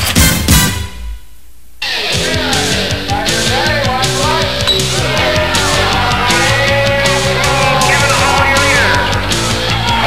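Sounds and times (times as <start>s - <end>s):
rock music with guitar: 1.9s - 10.0s.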